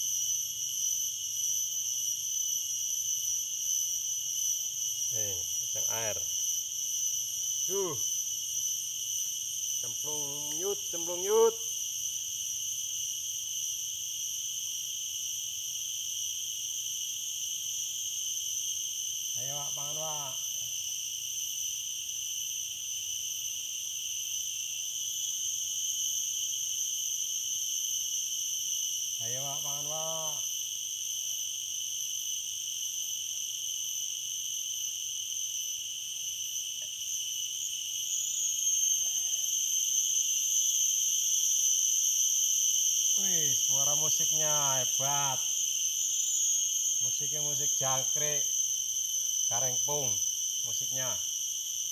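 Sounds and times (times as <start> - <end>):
cicadas droning: 0.0 - 51.9.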